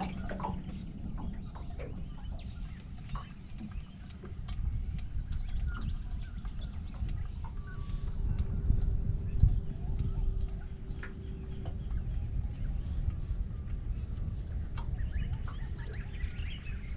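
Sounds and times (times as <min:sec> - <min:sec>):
water slapping against boat hull: 0:00.0 - 0:16.9
wind rumbling on microphone: 0:00.0 - 0:16.9
light clicks: 0:01.2 - 0:16.8.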